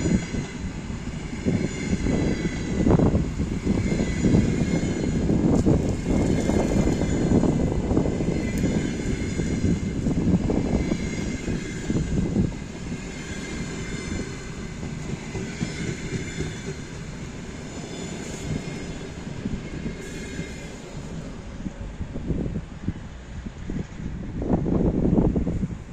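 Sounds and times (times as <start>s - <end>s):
train wheels rumbling on track: 0.0s - 25.9s.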